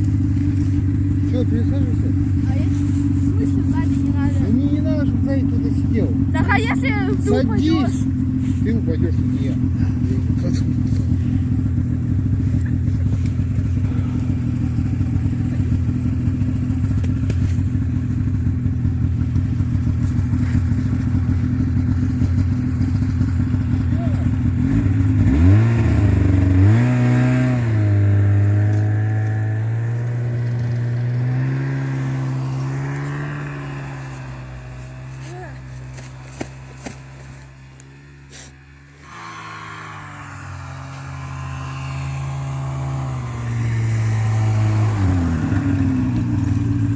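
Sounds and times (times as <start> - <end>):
snowmobile engine: 0.0 - 46.9.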